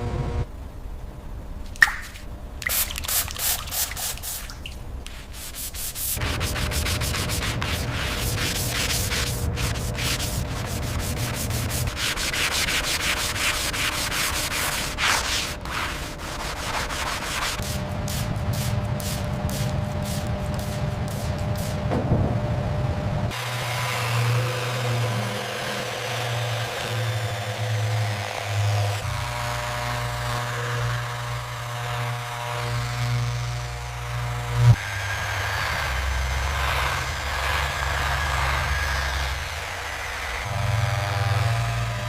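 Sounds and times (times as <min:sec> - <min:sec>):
sanding strokes: 0:02.7 - 0:04.5, 0:05.1 - 0:21.9, 0:23.3 - 0:42.0.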